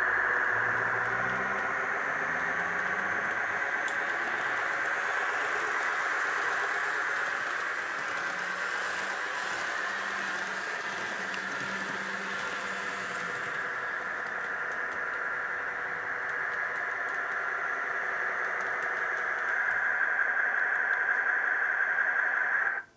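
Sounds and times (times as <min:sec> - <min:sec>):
model train motor hum: 0:00.0 - 0:22.9.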